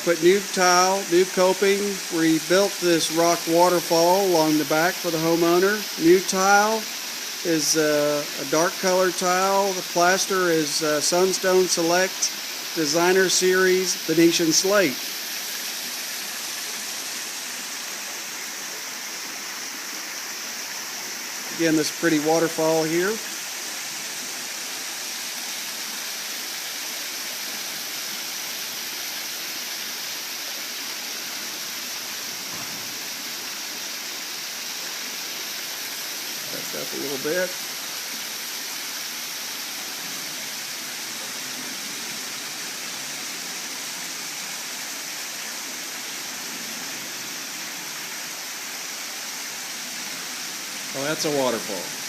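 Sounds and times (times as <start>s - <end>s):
waterfall splashing into pool: 0.0s - 52.0s.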